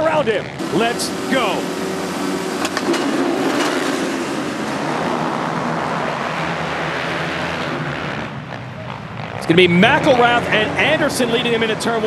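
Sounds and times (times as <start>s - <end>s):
motocross bikes accelerating: 0.0s - 12.0s.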